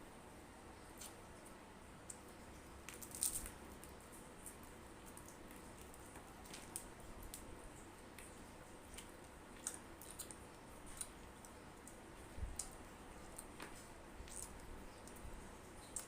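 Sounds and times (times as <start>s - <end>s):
crunching fried chicken: 2.1s - 16.0s.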